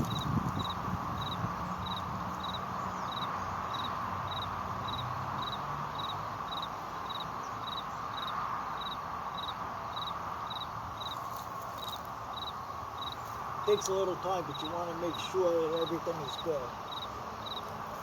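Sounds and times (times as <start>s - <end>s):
cricket chirping: 0.0s - 18.0s
steady background hiss: 0.0s - 18.0s.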